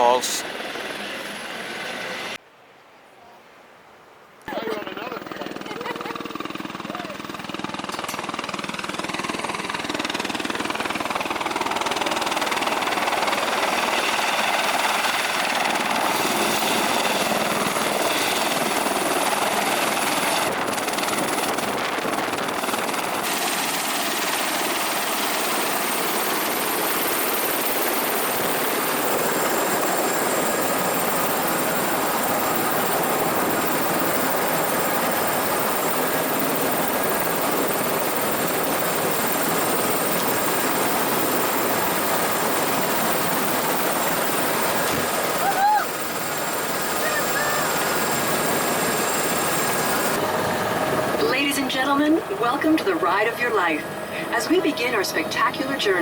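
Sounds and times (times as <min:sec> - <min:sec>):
helicopter turbine and rotor noise: 0:00.0 - 0:02.4, 0:04.5 - 0:56.0.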